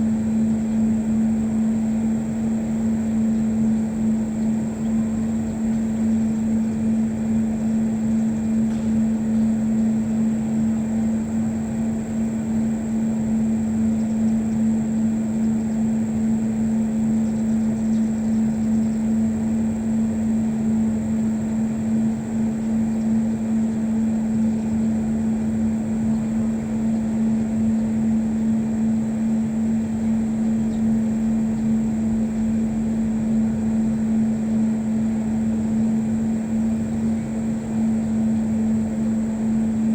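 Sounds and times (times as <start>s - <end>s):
steady motor drone: 0.0s - 39.9s.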